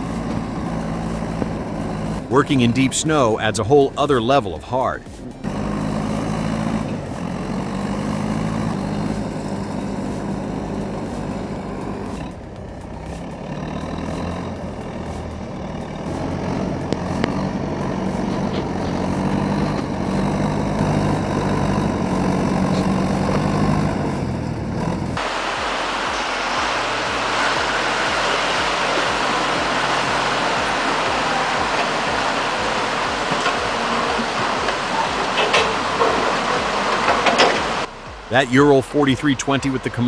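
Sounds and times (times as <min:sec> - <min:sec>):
heavy vehicle engine running: 0:00.0 - 0:40.0
loud noisy rumble: 0:00.0 - 0:40.0.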